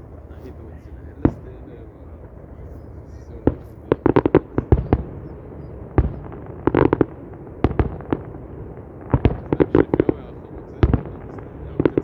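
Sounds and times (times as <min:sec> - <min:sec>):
fireworks exploding in sharp bangs: 0:00.0 - 0:12.0
steady low rumble: 0:00.0 - 0:12.0.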